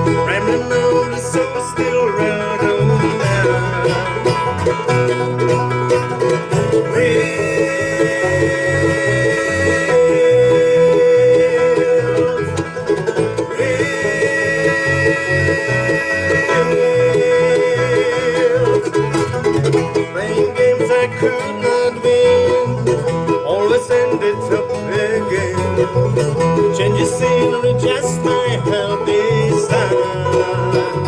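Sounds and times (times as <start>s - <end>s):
live country rock band playing: 0.0s - 31.0s.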